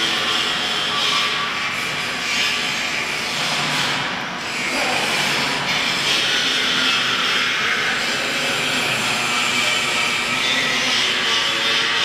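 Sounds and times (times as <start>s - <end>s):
machine fans and blowers rushing: 0.0s - 12.0s.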